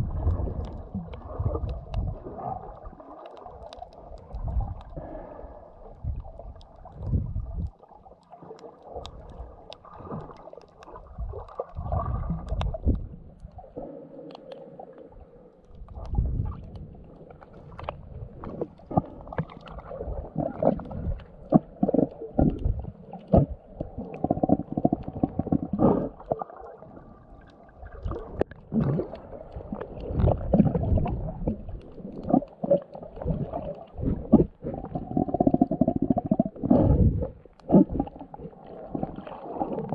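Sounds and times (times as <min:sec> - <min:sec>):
underwater rumbling and gurgling: 0:00.0 - 0:39.9.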